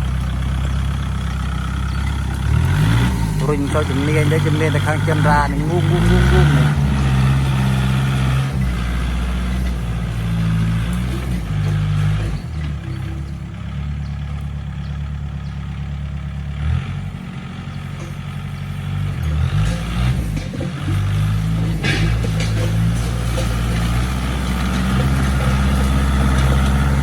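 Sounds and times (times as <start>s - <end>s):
tractor engine under load: 0.0s - 27.0s.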